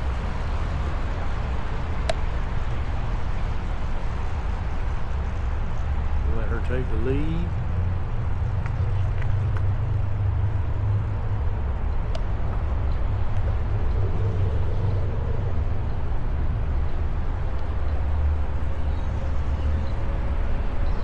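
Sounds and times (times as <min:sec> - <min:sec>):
e-bike riding rumble: 0:00.0 - 0:21.0
faint steady whine: 0:00.0 - 0:21.0.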